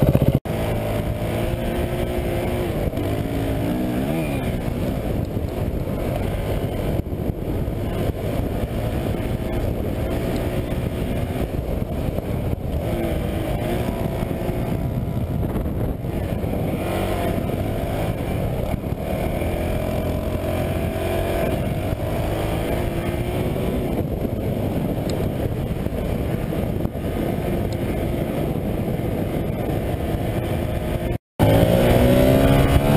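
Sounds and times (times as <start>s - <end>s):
motorcycle engine under load: 0.0s - 32.9s
wind noise on microphone: 0.0s - 32.9s.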